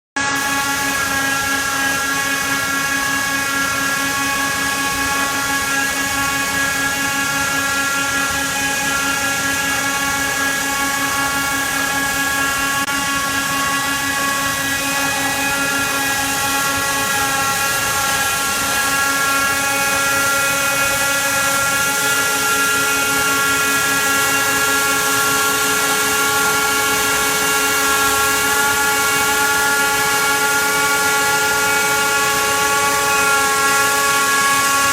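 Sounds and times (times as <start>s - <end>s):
wire saw whining: 0.2s - 34.9s.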